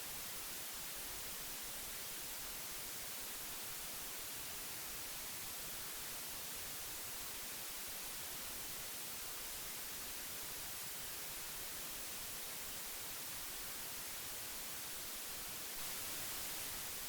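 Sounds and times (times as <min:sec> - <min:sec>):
magnetic tape hiss: 0:00.0 - 0:17.0.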